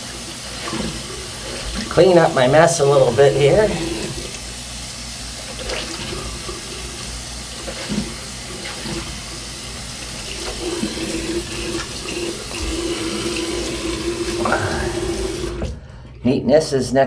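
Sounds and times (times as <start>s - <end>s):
sink tap running: 0.0s - 16.0s.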